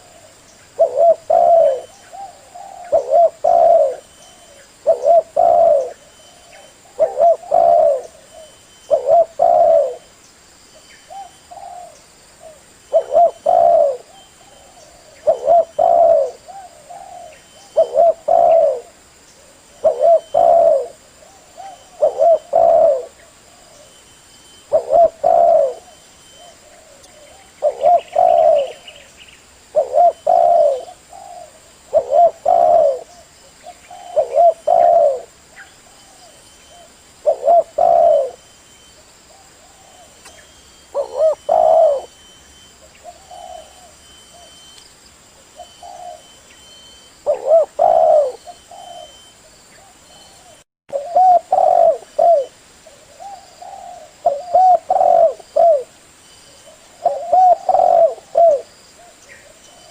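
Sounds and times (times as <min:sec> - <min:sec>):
dove cooing: 0:00.0 - 0:10.1, 0:11.1 - 0:38.6, 0:39.3 - 0:44.8, 0:45.4 - 0:55.9, 0:56.5 - 0:59.9.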